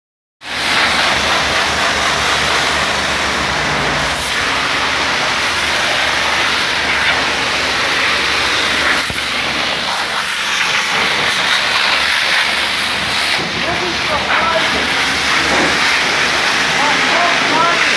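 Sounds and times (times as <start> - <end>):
pressure washer spraying water: 0.4 - 17.9.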